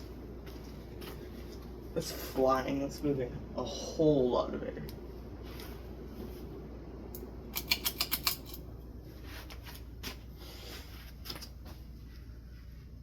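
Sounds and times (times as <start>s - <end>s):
ceiling fan running: 0.0s - 13.0s.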